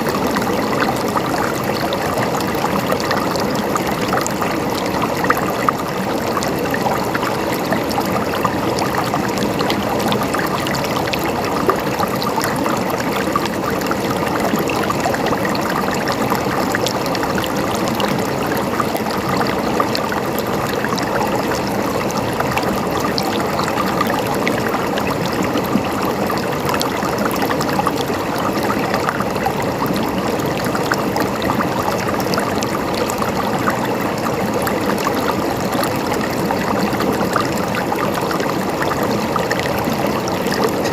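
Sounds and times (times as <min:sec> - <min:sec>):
river flowing over stones: 0:00.0 - 0:40.9
small splashes and trickles: 0:00.0 - 0:40.9.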